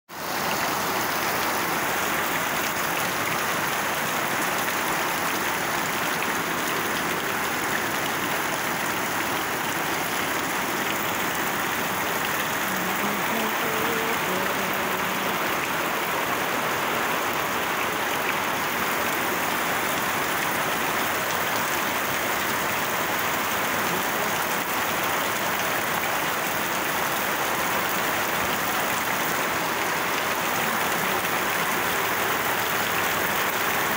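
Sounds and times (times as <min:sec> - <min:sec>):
heavy rain on pavement: 0:00.1 - 0:33.9.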